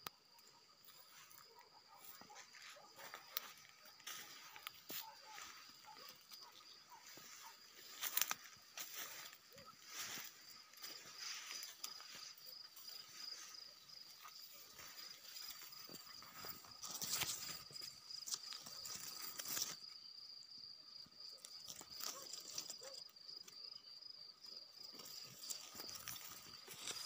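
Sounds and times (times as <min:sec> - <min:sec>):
cricket chirping: 0:00.0 - 0:27.0
leaves and twigs rustling: 0:00.3 - 0:20.3, 0:21.0 - 0:23.8, 0:24.4 - 0:27.0.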